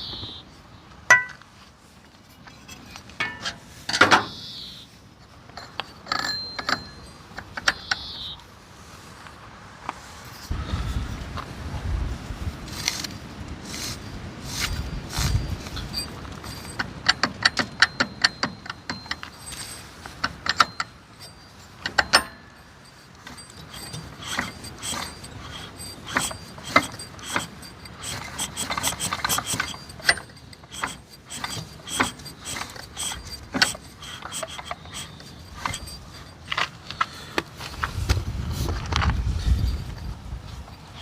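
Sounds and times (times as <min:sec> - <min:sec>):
metal tools clinking: 0:01.1 - 0:01.4, 0:02.3 - 0:04.4, 0:05.2 - 0:08.1, 0:12.8 - 0:37.9, 0:38.5 - 0:41.0.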